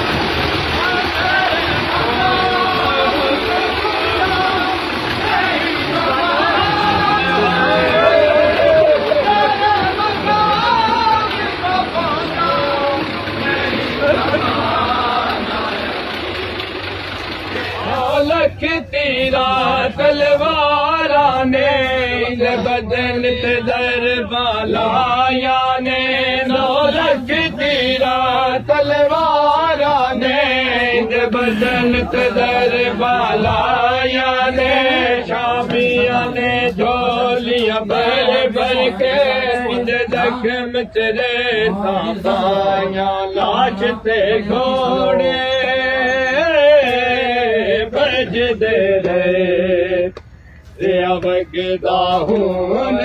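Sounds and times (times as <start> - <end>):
man chanting: 0.7 - 15.9, 17.6 - 50.1.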